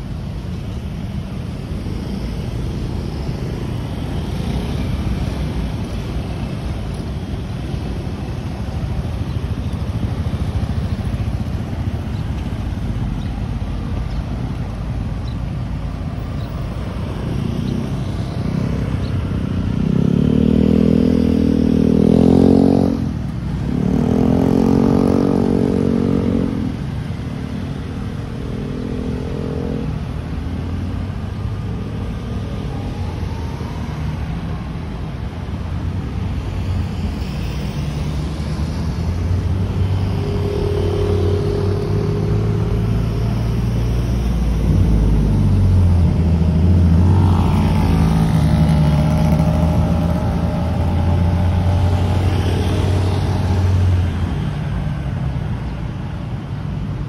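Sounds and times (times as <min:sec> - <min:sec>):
motorcycles passing close: 0:00.0 - 0:57.0
street traffic rumbling: 0:00.0 - 0:57.0.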